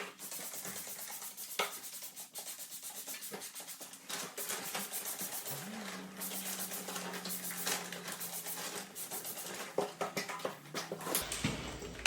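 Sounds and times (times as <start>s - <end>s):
quick rubbing strokes: 0.0s - 9.9s.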